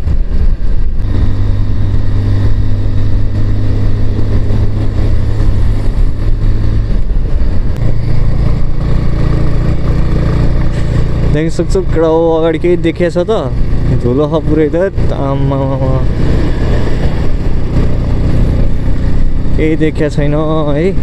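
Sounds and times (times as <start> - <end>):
wind noise on microphone: 0.0 - 19.6
motorcycle engine running: 0.0 - 21.0.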